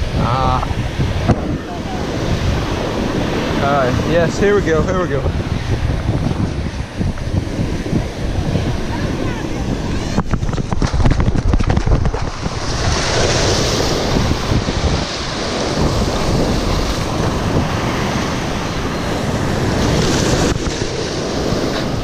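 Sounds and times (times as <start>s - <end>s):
waves breaking on shore: 0.0s - 22.0s
wind buffeting microphone: 0.0s - 22.0s.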